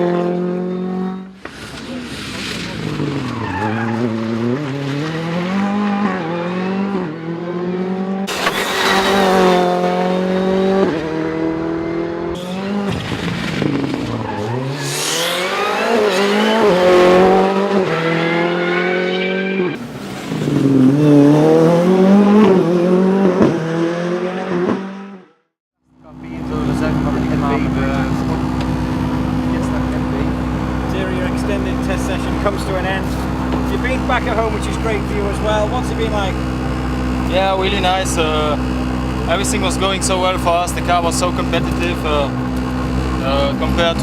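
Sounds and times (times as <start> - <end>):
rally car engine revving: 0.0 - 25.4, 26.1 - 44.0.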